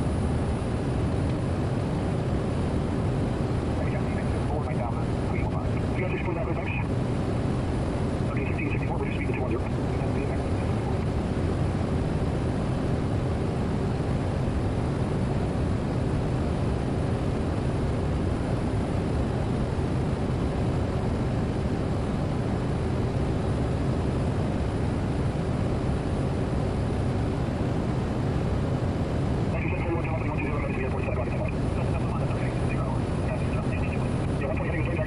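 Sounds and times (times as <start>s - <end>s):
faint steady hum: 0.0s - 35.0s
turboprop engine cabin drone: 0.0s - 35.0s.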